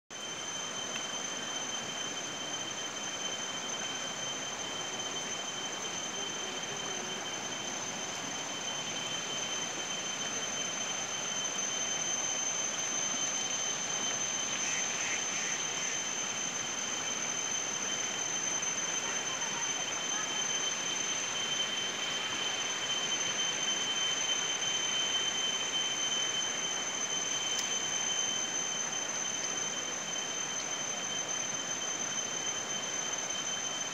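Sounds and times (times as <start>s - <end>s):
high-pitched insect drone: 0.1s - 33.9s.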